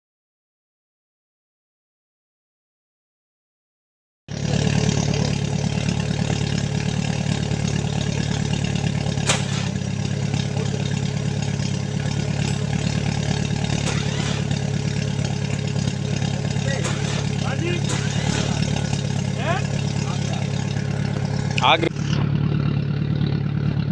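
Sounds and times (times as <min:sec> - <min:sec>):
vehicle engine running: 0:04.3 - 0:23.9.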